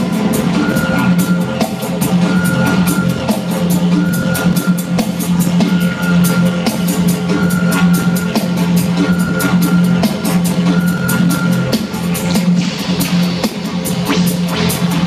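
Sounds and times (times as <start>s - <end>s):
drum kit beating fast: 0.0s - 15.0s
steady low drone: 0.0s - 15.0s.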